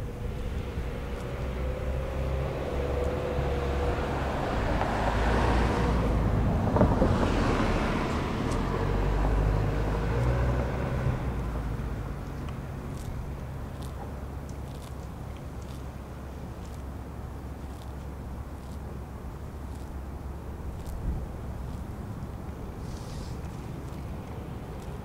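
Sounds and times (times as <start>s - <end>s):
vehicle passing by: 0.0s - 25.0s.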